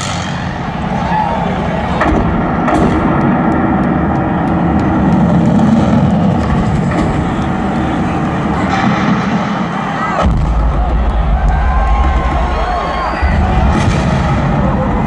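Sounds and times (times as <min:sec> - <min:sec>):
stadium crowd cheering: 0:00.0 - 0:15.0.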